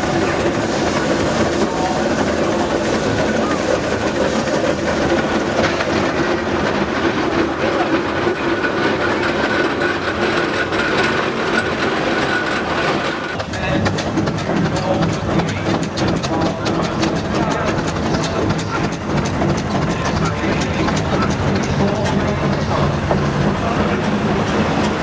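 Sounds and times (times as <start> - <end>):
steam traction engines running: 0.0 - 25.0.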